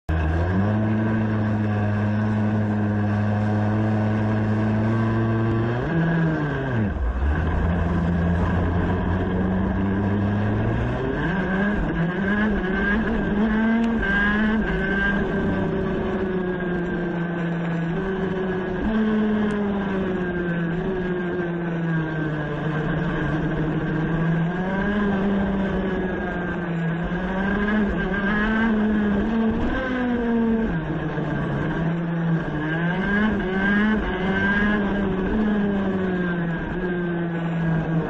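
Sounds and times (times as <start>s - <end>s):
kart engine revving: 0.1s - 38.0s.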